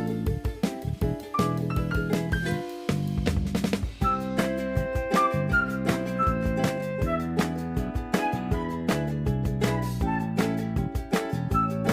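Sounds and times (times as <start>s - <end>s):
upbeat instrumental music: 0.0s - 11.9s.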